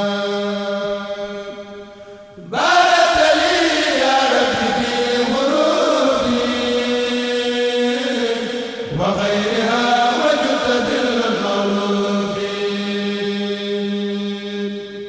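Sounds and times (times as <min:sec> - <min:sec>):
group chanting in unison: 0:02.4 - 0:15.0.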